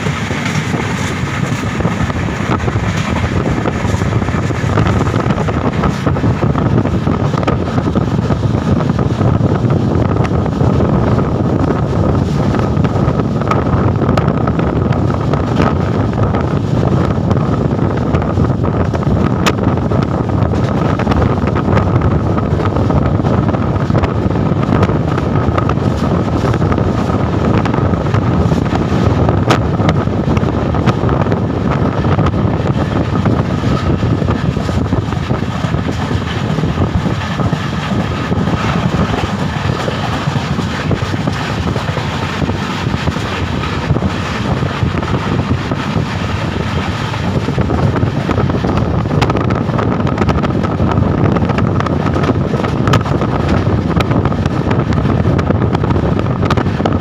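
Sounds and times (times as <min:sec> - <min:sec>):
train carriage moving at speed: 0:00.0 - 0:57.0
wind buffeting microphone: 0:00.0 - 0:57.0.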